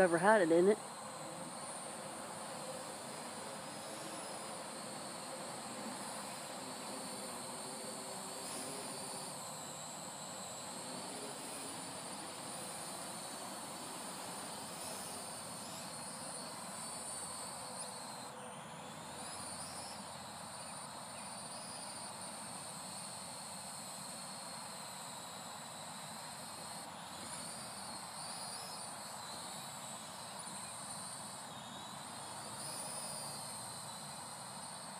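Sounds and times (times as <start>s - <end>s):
drone propeller whine: 0.0s - 34.9s
steady hiss: 0.0s - 34.9s.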